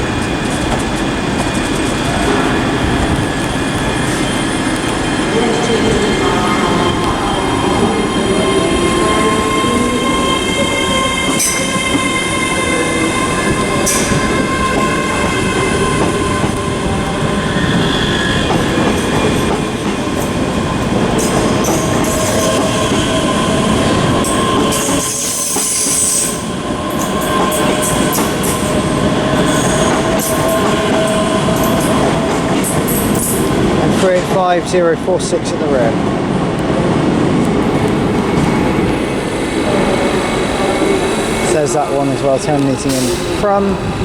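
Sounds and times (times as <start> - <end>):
electric train whining and rumbling: 0.0 - 44.0.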